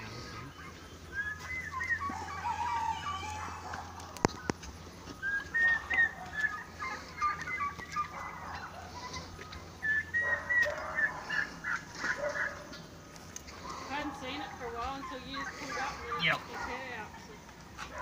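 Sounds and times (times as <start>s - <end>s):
high-pitched animal calls: 0.1s - 12.6s, 15.0s - 16.9s.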